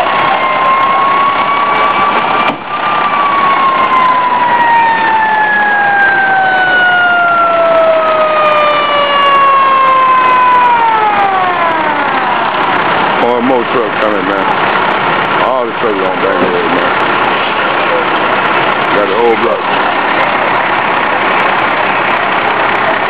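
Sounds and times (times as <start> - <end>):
fire engine siren: 0.0 - 23.0.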